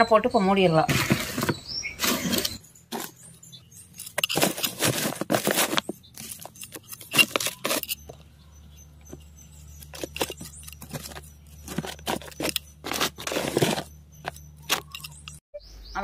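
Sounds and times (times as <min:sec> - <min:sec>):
scoop scraping garden soil: 0:00.9 - 0:03.3, 0:04.0 - 0:08.2, 0:09.1 - 0:15.4.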